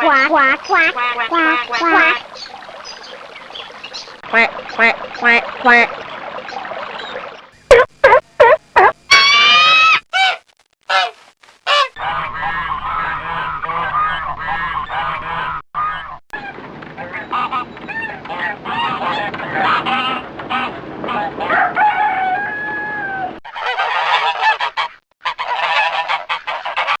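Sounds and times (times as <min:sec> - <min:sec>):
waterfowl calling: 0:00.0 - 0:27.0.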